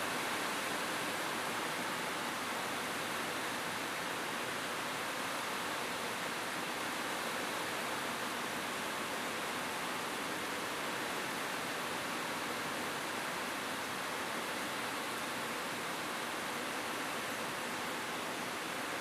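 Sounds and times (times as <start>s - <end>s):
rain on a roof: 0.0s - 19.0s.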